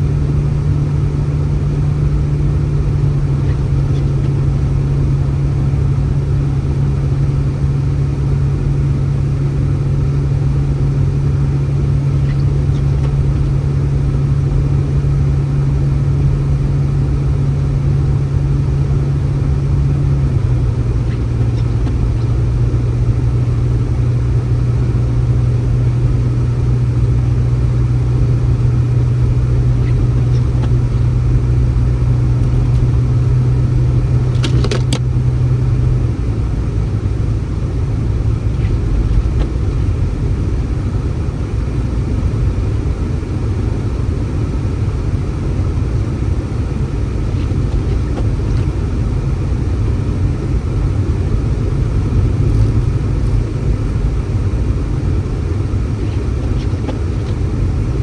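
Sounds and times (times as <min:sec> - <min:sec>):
low motor drone: 0:00.0 - 0:58.0.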